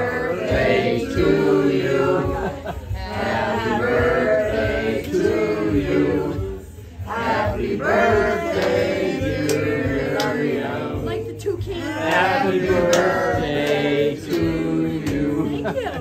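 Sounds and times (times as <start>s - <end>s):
people singing a birthday tune: 0.0s - 16.0s.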